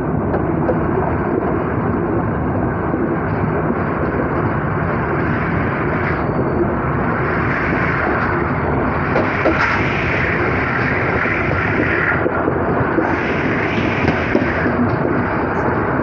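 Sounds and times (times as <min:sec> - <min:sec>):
train wheels rumbling on rails: 0:00.0 - 0:16.0
rushing air: 0:01.0 - 0:16.0.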